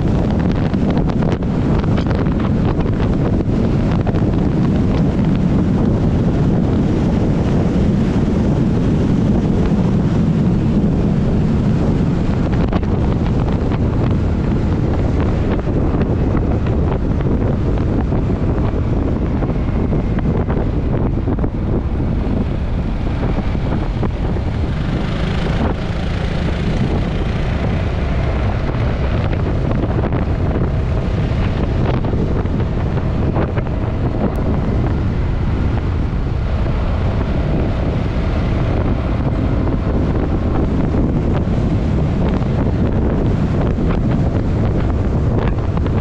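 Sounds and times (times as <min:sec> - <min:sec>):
tyre noise on road: 0:00.0 - 0:46.0
wind buffeting microphone: 0:00.0 - 0:46.0.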